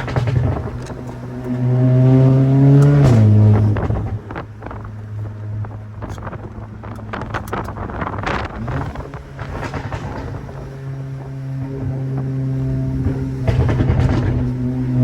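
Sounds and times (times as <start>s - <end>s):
car engine at low revs: 0.0s - 15.0s
exhaust crackles: 0.0s - 15.0s.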